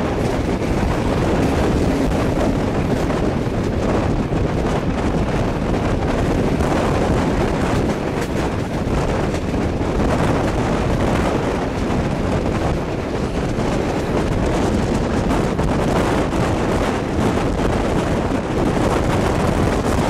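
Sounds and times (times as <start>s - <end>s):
train running noise: 0.0s - 20.0s
wind buffeting microphone: 0.0s - 20.0s.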